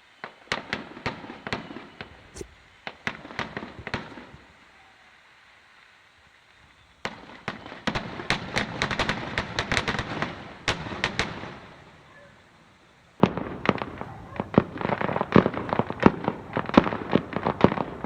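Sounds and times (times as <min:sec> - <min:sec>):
fireworks crackling pops: 0:00.2 - 0:04.8, 0:05.6 - 0:11.6, 0:13.2 - 0:18.0.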